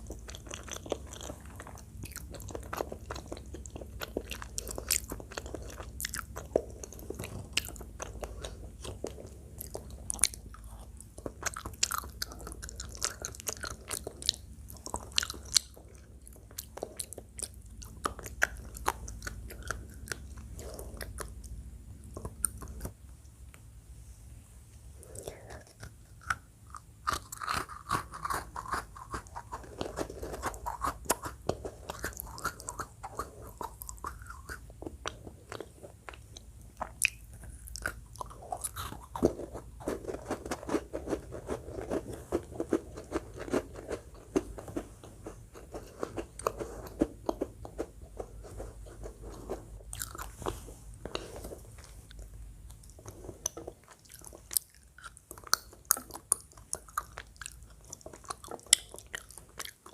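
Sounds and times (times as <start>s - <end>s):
person chewing and biting food: 0.0s - 23.0s, 25.0s - 59.9s.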